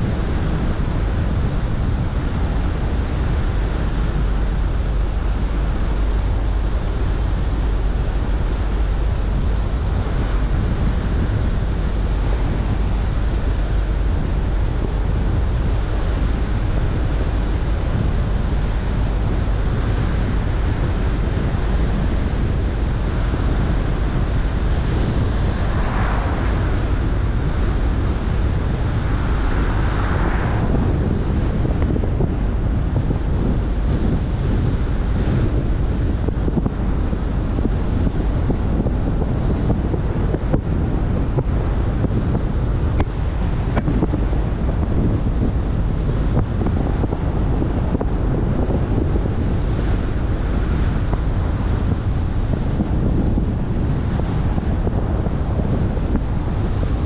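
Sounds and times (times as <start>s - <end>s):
car wind and road noise: 0.0s - 57.0s.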